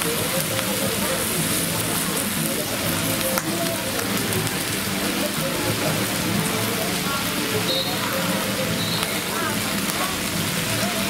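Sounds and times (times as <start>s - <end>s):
crowd chatter: 0.0s - 11.0s
food sizzling: 0.0s - 11.0s.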